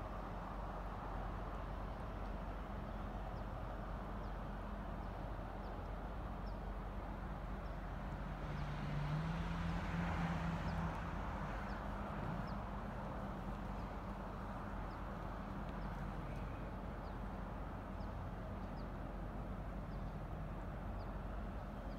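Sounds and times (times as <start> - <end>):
low engine hum: 0.0 - 21.9
outdoor background noise: 0.0 - 21.9.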